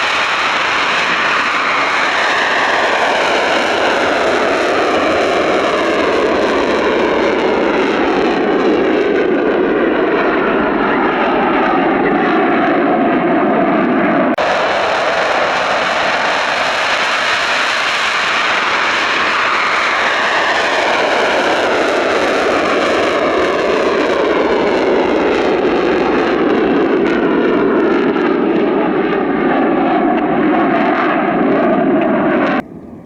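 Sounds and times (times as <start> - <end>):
jet engines roaring past: 0.0 - 33.0.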